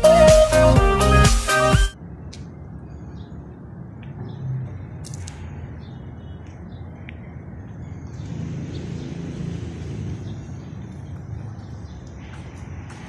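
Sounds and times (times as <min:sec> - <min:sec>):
distant traffic rumble: 0:02.0 - 0:13.0.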